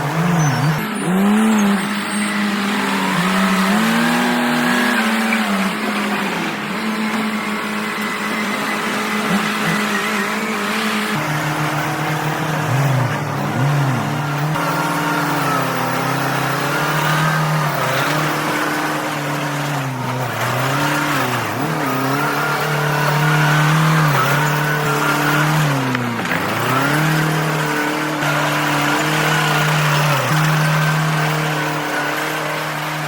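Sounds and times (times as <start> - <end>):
heavy machinery engine running: 0.0 - 33.0.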